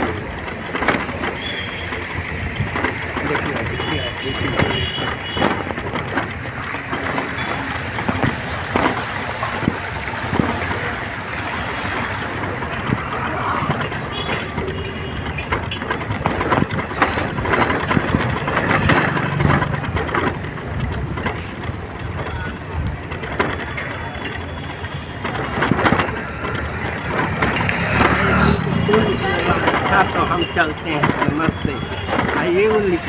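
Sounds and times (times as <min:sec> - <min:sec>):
knocks and rattles: 0:00.0 - 0:33.0
vehicle engine running: 0:00.0 - 0:33.0.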